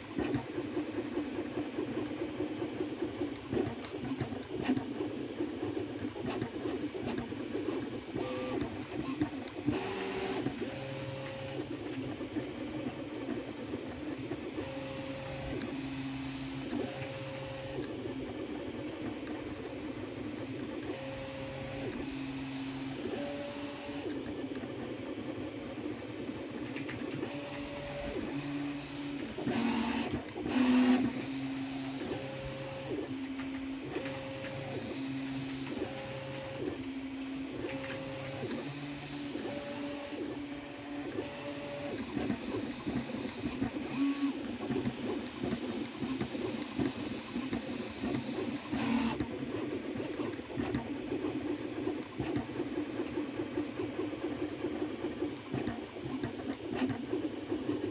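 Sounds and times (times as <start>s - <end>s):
printer stepper motors whining: 0.0s - 57.9s.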